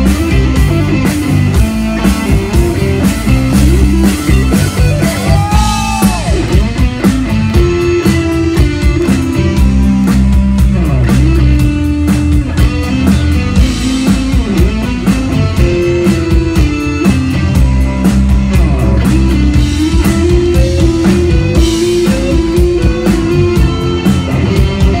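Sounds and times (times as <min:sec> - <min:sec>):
drum kit beat: 0:00.0 - 0:25.0
electric guitar: 0:00.0 - 0:25.0.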